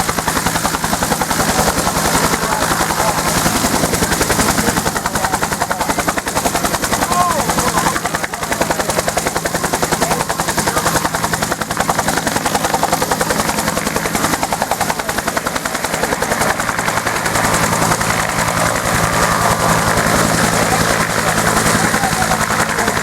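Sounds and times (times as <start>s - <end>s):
helicopter rotor beating: 0.0s - 23.0s.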